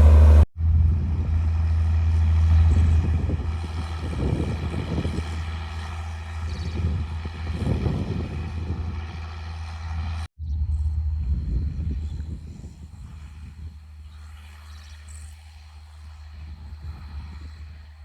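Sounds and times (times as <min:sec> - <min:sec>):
diesel tractor engine droning: 0:00.0 - 0:18.0.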